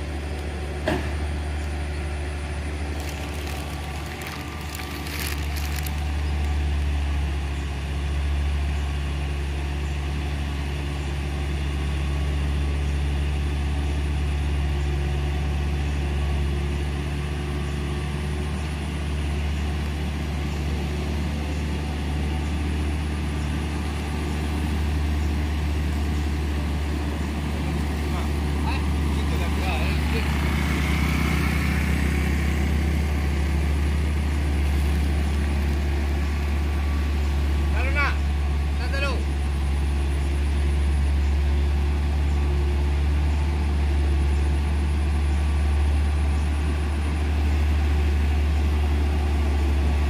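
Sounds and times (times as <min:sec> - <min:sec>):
diesel truck engine labouring: 0:00.0 - 0:50.0.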